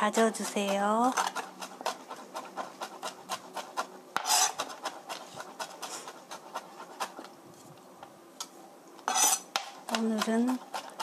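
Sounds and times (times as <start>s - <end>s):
knife chopping on a cutting board: 0.1s - 7.2s, 9.1s - 11.0s.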